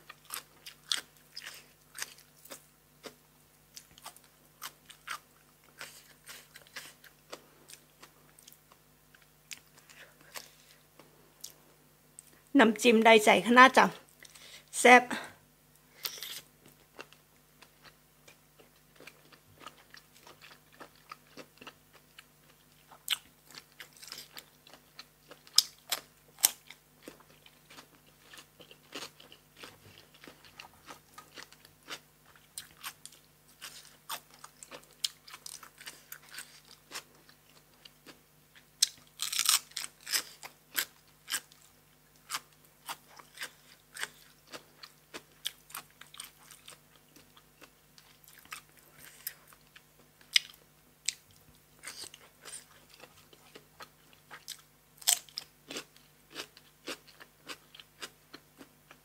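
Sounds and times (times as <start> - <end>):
person chewing crunchy food: 0.0 - 11.6, 15.8 - 59.0.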